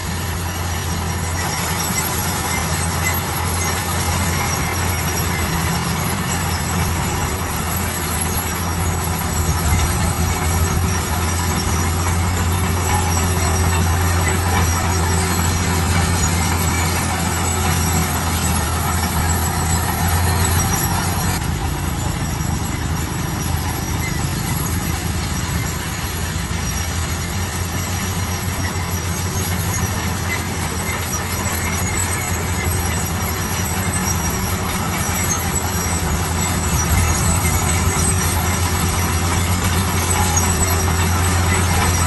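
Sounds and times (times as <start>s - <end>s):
heavy machine engine humming: 0.0s - 42.0s
mechanical noise: 0.0s - 42.0s.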